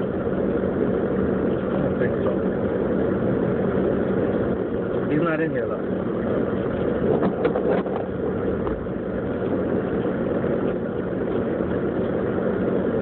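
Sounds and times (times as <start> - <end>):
engine hum: 0.0 - 13.0
road and tyre noise: 0.0 - 13.0.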